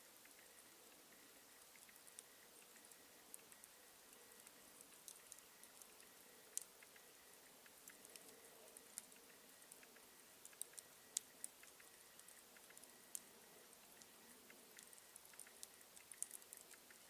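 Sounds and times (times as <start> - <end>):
quiet fire hiss: 0.0 - 17.0
campfire wood crackling: 1.6 - 17.0.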